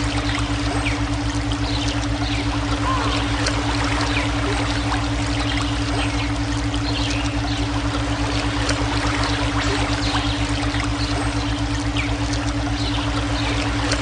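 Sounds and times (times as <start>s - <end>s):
pulsing synthetic tones: 0.0s - 14.0s
stream water rushing: 0.0s - 14.0s.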